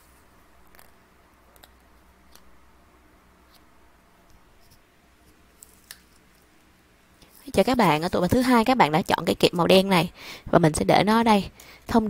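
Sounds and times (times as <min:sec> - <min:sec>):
low steady microphone hum: 0:00.0 - 0:12.0.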